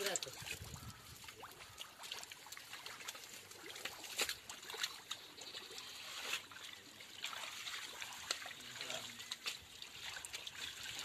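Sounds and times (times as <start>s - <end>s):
hand net splashing through water: 0.0s - 11.0s
muddy water trickling: 0.0s - 11.0s
water dripping: 0.0s - 11.0s.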